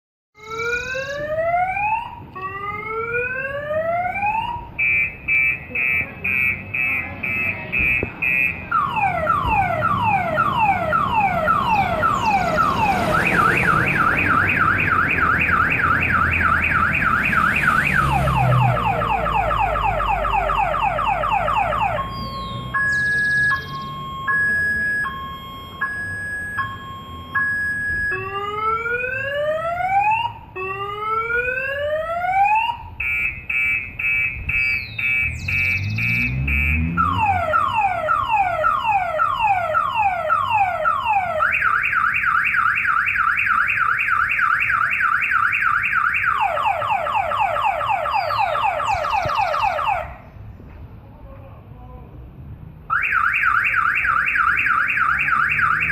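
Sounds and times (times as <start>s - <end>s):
car alarm siren: 0.4s - 50.2s, 52.9s - 55.9s.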